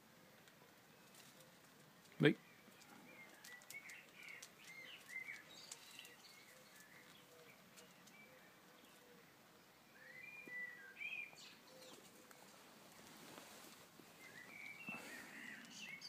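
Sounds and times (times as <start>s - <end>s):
faint birdsong chirping: 0.0s - 16.0s.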